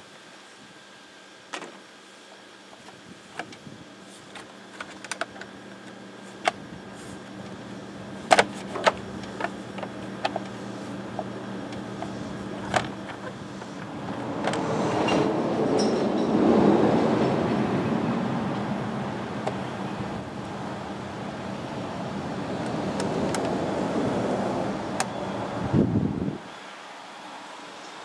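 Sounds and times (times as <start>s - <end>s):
steady low hum: 0.0s - 26.5s.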